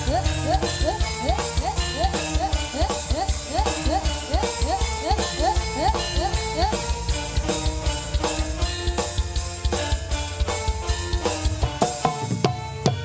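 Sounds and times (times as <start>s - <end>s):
sustained pitched instrument tones: 0.0s - 11.6s
heavy bass: 0.0s - 11.8s
drums beating fast rhythm: 0.0s - 13.0s.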